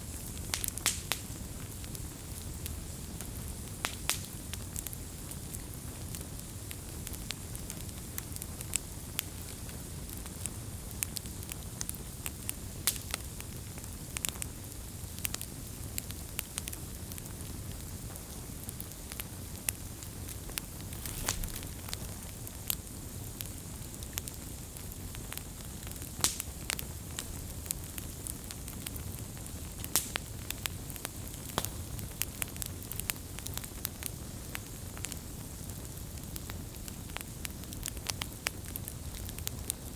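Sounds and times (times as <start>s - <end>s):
fire pops and crackles: 0.0s - 39.9s
wood fire burning: 0.0s - 39.9s.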